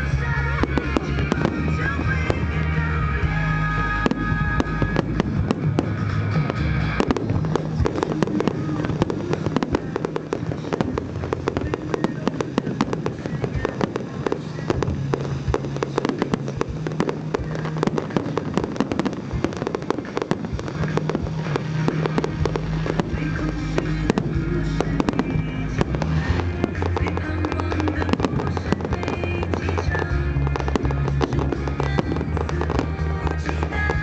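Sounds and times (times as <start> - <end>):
fireworks bangs and crackles: 0.0 - 34.0
music playing: 0.0 - 34.0.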